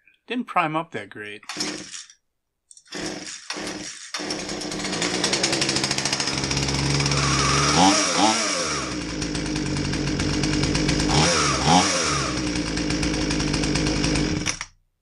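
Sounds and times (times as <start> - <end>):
chainsaw engine revving: 1.5 - 2.1, 2.8 - 14.7.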